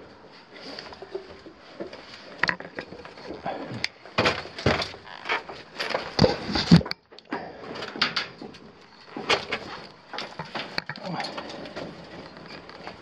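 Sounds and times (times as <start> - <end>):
knocks and scrapes against rock: 0.7 - 7.0, 7.8 - 13.0.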